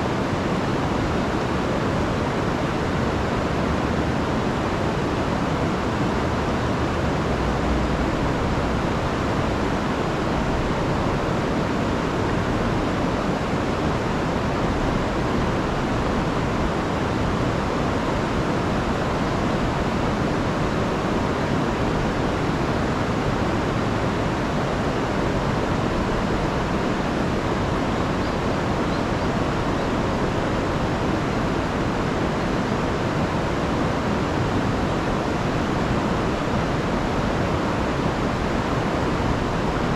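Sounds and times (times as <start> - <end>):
river rushing over falls: 0.0 - 39.9.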